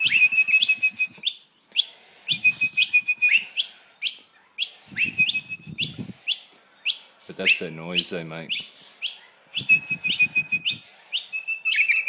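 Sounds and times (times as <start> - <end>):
high bird whistle: 0.0 - 12.0
parrots chirping: 0.0 - 12.0.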